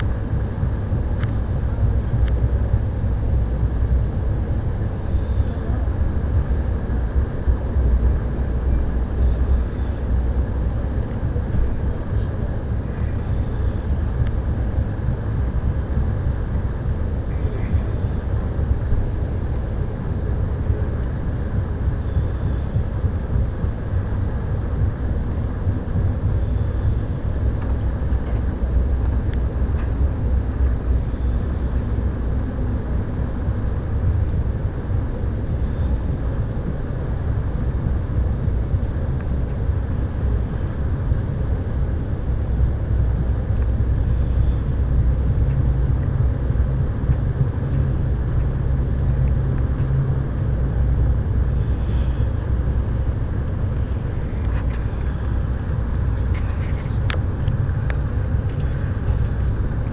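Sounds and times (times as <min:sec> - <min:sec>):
train car rumbling on track: 0:00.0 - 0:59.9.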